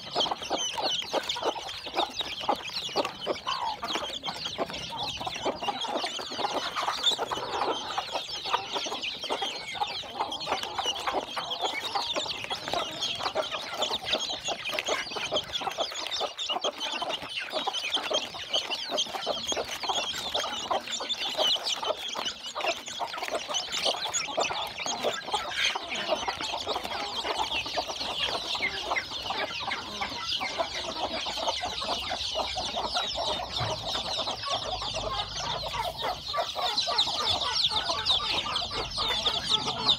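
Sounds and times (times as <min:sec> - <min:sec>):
chicks peeping and cheeping: 0:00.0 - 0:39.9.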